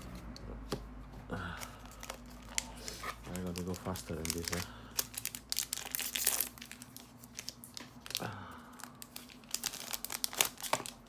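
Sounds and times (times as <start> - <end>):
foil wrapper crinkling and tearing: 1.7 - 11.0.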